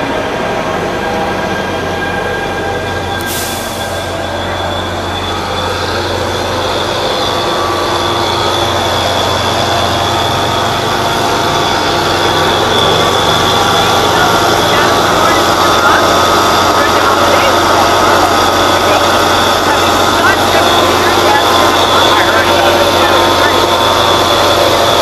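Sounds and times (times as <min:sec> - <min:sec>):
diesel locomotive engine running: 0:00.0 - 0:25.0
train rolling past: 0:00.0 - 0:25.0
high-pitched wheel squeal: 0:01.1 - 0:25.0.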